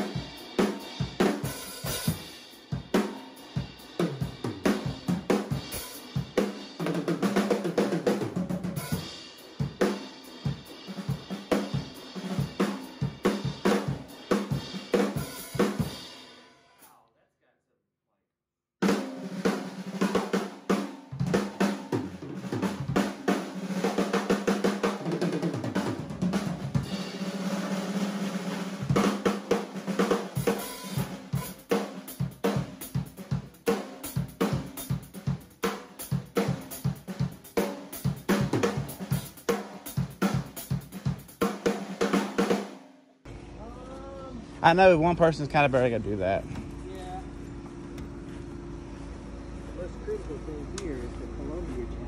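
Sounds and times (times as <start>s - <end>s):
drum kit playing fills: 0.0s - 17.0s, 18.8s - 52.0s.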